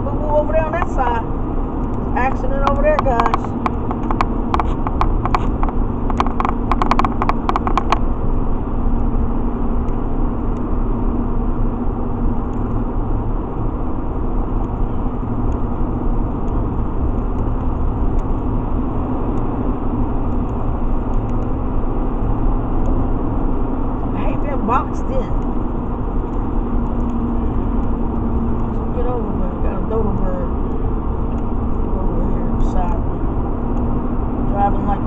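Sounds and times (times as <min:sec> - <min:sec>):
road and engine rumble: 0:00.0 - 0:35.0.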